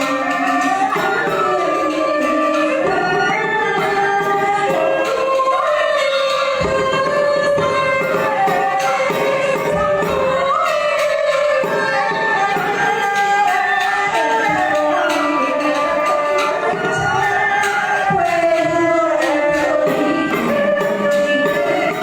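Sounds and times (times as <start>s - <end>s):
light percussion strikes: 0.0s - 22.0s.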